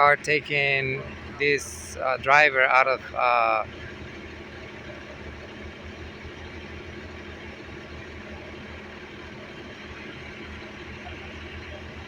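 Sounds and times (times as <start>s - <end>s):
vehicle engines idling: 0.0s - 12.0s.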